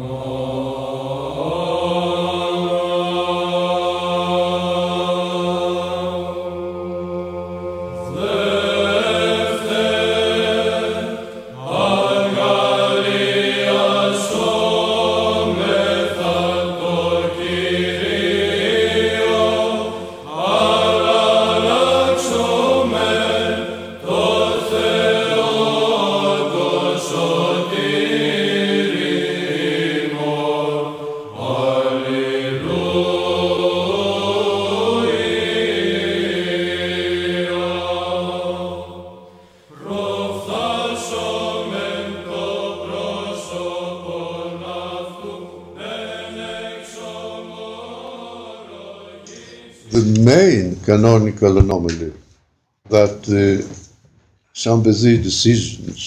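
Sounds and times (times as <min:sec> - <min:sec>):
voices chanting sacred music: 0:00.0 - 0:52.1.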